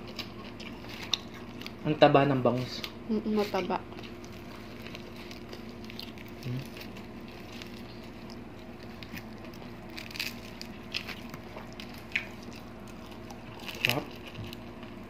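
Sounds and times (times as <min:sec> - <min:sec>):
chewing and smacking: 0:00.0 - 0:01.8, 0:03.8 - 0:15.0
steady low hum: 0:00.0 - 0:15.0.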